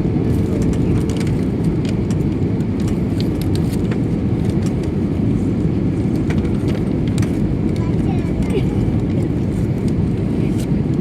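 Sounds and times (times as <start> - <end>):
airliner engines and airflow rumble: 0.0 - 11.0.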